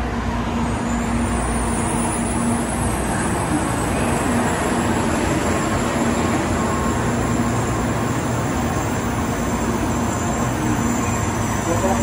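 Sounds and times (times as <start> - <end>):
train rolling rumble and whir: 0.0 - 12.0.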